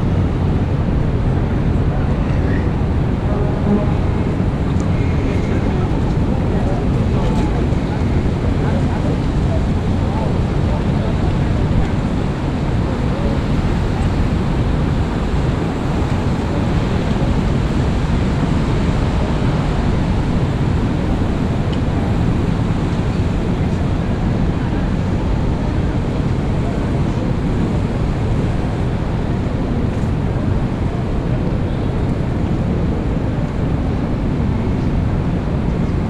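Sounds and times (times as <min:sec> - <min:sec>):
traffic on wet roads: 0:00.0 - 0:36.0.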